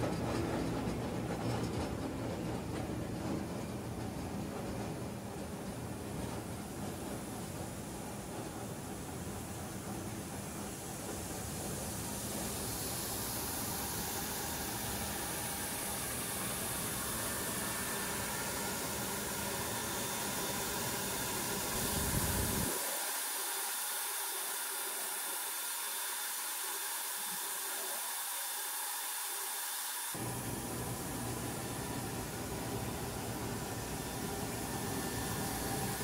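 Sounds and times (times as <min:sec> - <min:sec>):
machinery hissing: 0:05.5 - 0:36.0.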